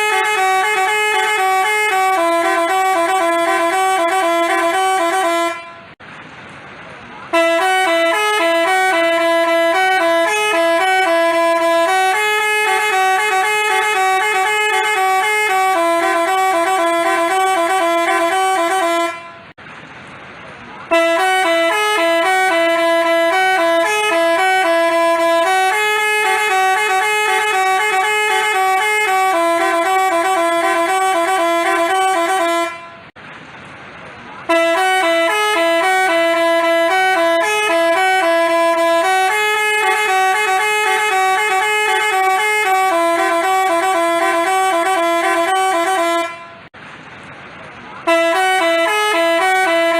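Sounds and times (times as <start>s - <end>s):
horn playing a melody: 0.0s - 6.0s, 7.3s - 19.5s, 20.9s - 33.1s, 34.5s - 46.7s, 48.1s - 49.9s.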